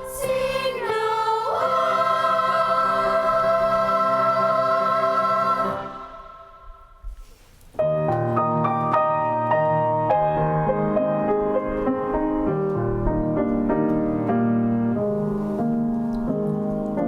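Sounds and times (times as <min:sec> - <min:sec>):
piano piece: 0:00.0 - 0:07.1, 0:07.7 - 0:17.0.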